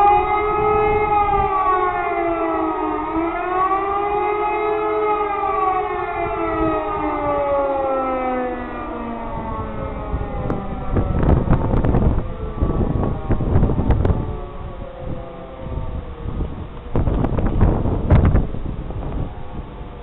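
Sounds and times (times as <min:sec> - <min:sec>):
rising and falling siren: 0:00.0 - 0:20.0
wind buffeting microphone: 0:00.0 - 0:20.0.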